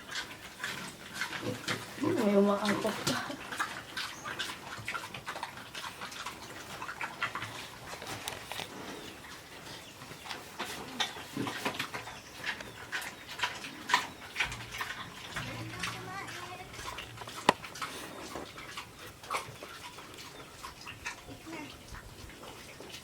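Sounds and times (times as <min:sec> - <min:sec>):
pigs chewing and smacking: 0:00.0 - 0:23.0.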